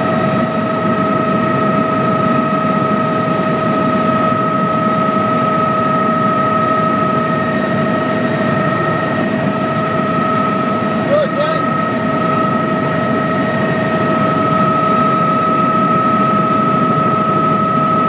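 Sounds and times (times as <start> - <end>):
helicopter running: 0.0 - 18.0.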